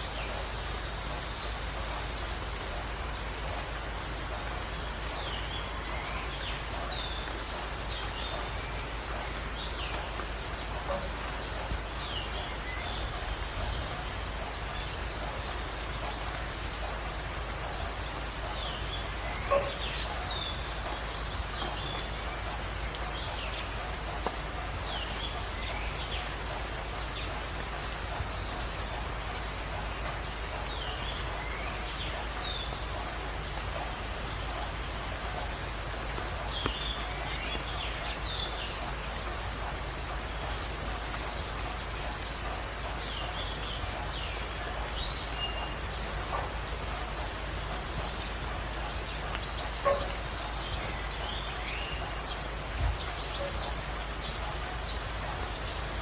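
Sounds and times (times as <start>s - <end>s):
songbird trills and chirps: 0.0s - 56.0s
water cascading over rocks: 0.0s - 56.0s.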